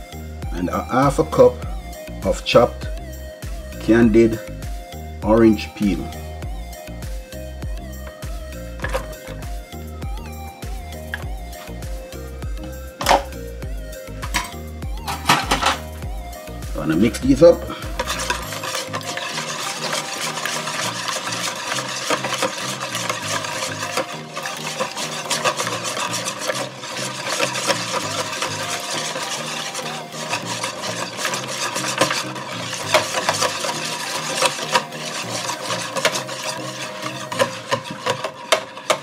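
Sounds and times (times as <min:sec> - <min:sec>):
whisk scraping plastic bowl: 0:00.5 - 0:39.0.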